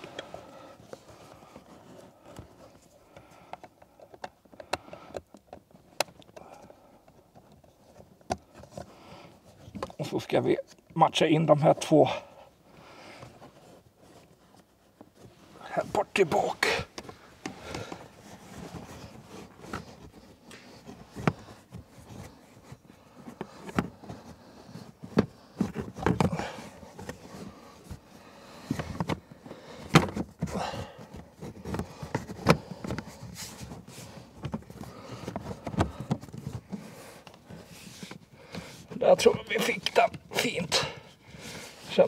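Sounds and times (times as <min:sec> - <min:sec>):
filter rustling and scraping: 0:00.0 - 0:42.0.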